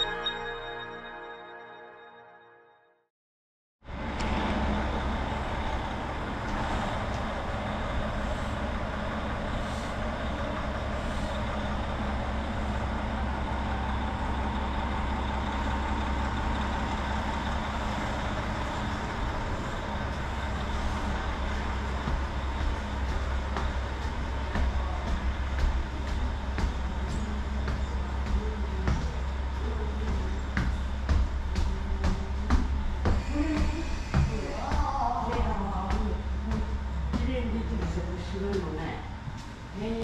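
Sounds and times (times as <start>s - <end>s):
vehicle engine rumble: 3.8s - 40.0s.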